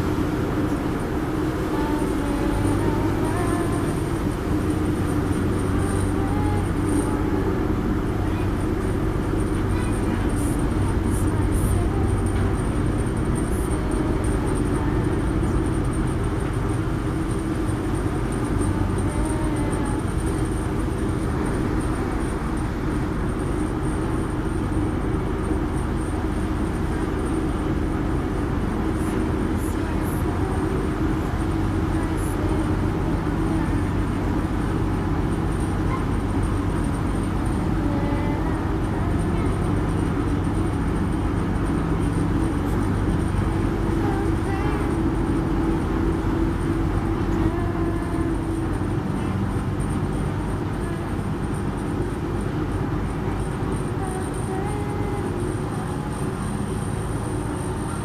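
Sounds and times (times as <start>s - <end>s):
ferry engine drone: 0.0s - 58.0s.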